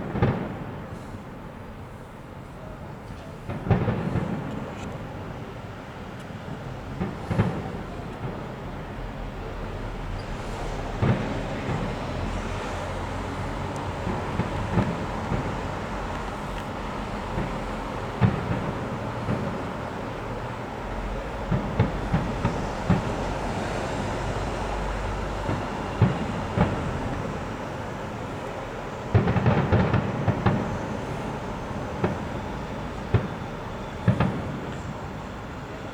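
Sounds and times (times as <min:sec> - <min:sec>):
fireworks banging: 0:00.0 - 0:35.9
steady fireworks rumble: 0:00.0 - 0:35.9.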